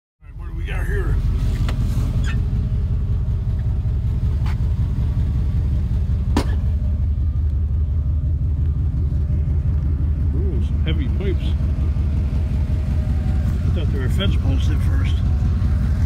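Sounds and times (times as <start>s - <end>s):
vehicle engine and road rumble: 0.2s - 16.0s.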